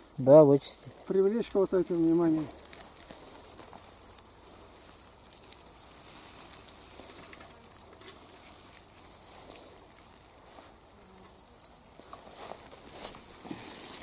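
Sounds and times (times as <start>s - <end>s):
mesh fish trap rustling: 1.1s - 14.0s.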